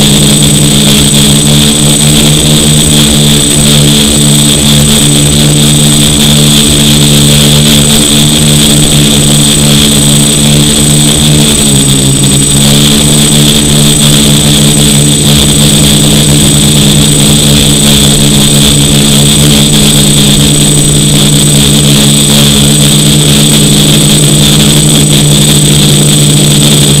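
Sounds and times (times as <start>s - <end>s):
quadcopter motors buzzing: 0.0s - 27.0s.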